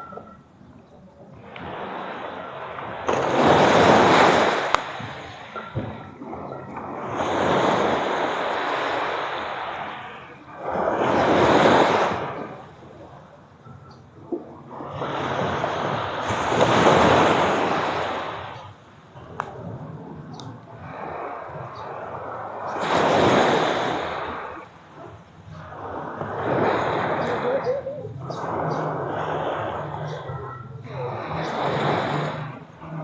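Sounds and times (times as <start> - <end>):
sea waves washing on beach: 0.0 - 33.0.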